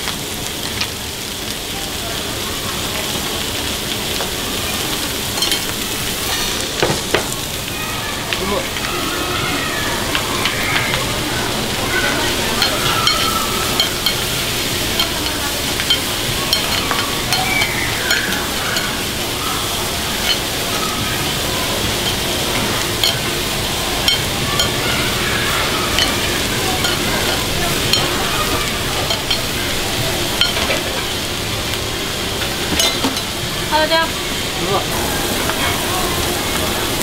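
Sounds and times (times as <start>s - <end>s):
food sizzling on hot plate: 0.0s - 37.0s.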